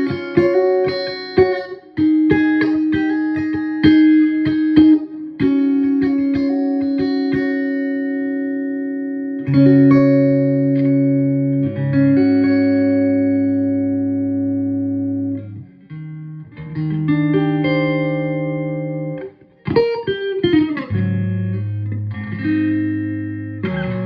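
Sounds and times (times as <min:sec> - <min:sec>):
electric guitar notes and chords: 0:00.0 - 0:24.0.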